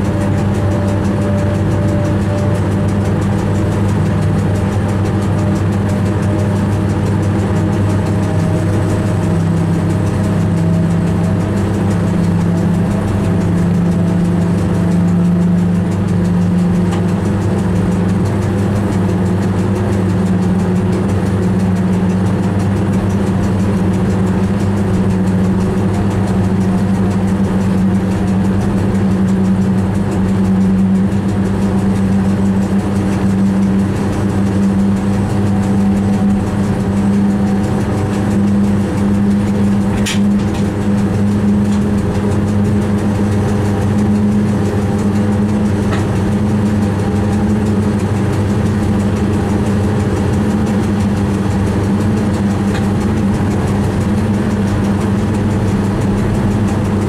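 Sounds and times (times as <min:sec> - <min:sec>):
train running drone: 0:00.0 - 0:57.0.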